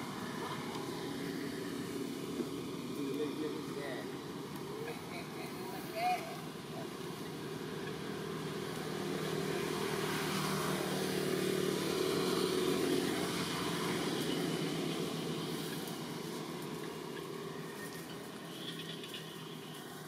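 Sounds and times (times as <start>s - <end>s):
motor engine humming: 0.0s - 20.0s.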